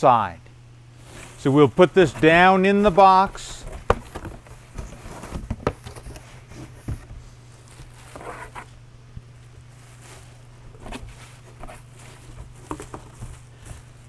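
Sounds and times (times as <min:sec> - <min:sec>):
steady low hum: 0:00.0 - 0:14.0
plastic liner rustling and crinkling: 0:01.0 - 0:08.8, 0:09.4 - 0:14.0.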